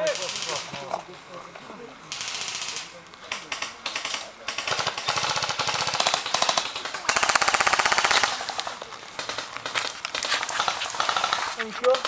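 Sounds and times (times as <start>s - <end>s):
airsoft guns firing full auto: 0.0s - 0.9s, 2.1s - 12.0s.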